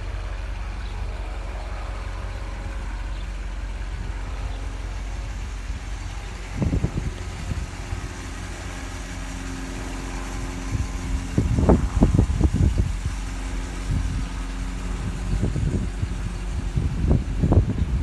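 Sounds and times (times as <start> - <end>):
car engine idling: 0.0 - 18.0
low thumping and rumbling: 0.0 - 18.0.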